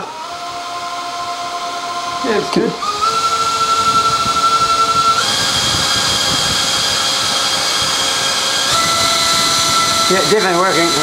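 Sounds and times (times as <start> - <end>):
electric fans whining: 0.0 - 11.0.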